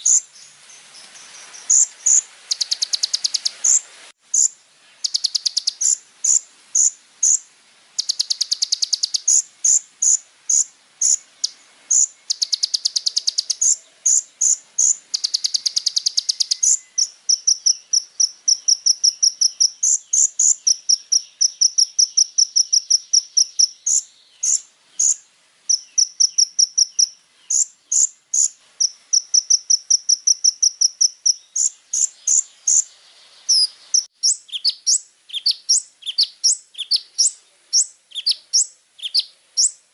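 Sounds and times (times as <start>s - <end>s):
bird singing high-pitched song: 0.0s - 39.9s.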